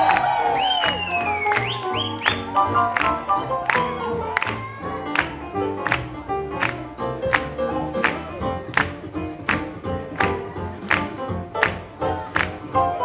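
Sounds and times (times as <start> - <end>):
swing jazz band playing: 0.0 - 13.0.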